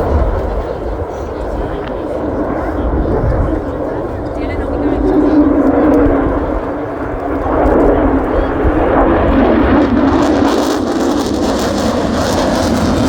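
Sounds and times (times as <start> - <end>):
jet engine roaring: 0.0 - 13.0.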